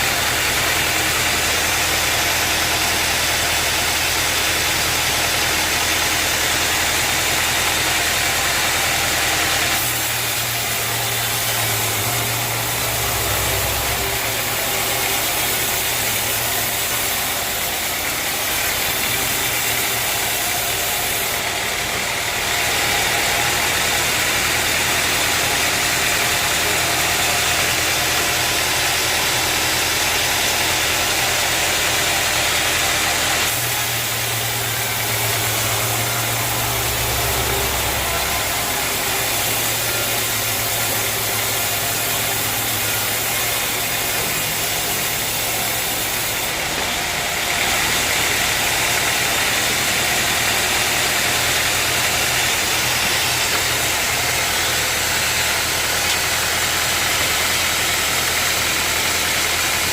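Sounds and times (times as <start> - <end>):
sawmill machinery hum and hiss: 0.0 - 59.9.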